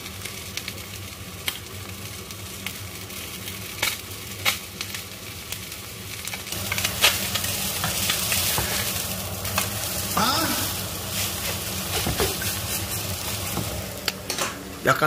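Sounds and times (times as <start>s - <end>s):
fish sizzling in a frying pan: 0.0s - 14.2s.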